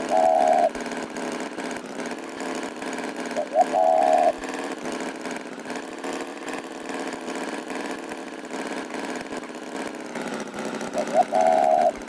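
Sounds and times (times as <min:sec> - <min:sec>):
cartoon tractor engine chugging: 0:00.0 - 0:12.0.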